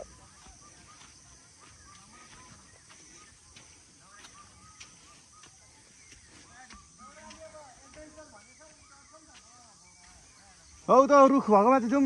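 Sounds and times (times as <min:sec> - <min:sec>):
bird chirps: 0:00.0 - 0:12.0
footsteps on a dirt path: 0:00.0 - 0:12.0
steady high-pitched hiss: 0:00.0 - 0:12.0.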